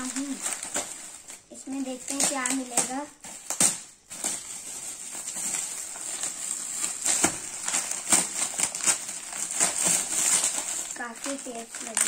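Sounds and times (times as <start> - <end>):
gift-wrap paper crinkling: 0.0 - 12.0
paper ripping: 2.0 - 12.0.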